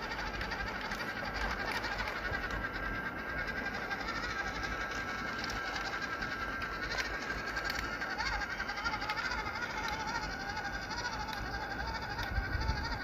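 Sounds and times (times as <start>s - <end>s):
electric motor and gearbox whining: 0.0s - 13.0s.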